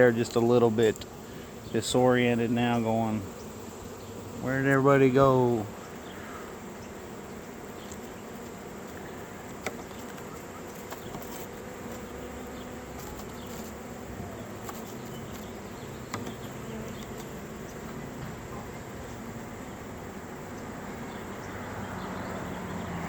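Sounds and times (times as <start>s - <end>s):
honeybees buzzing: 0.0s - 23.0s.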